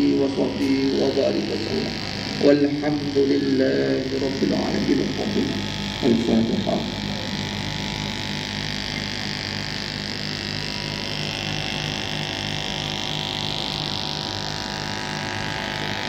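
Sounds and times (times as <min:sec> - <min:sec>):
electrical buzz and hiss: 0:00.0 - 0:16.0
low pulsing hum: 0:00.0 - 0:16.0.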